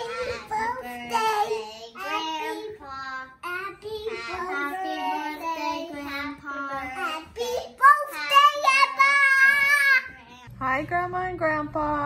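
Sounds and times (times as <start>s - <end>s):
young children singing: 0.0s - 10.2s.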